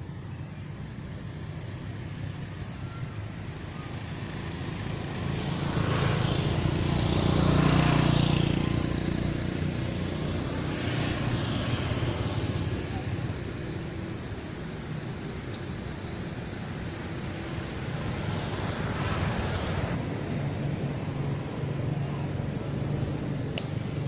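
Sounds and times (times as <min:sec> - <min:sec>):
vehicle passing by: 0:03.5 - 0:24.0.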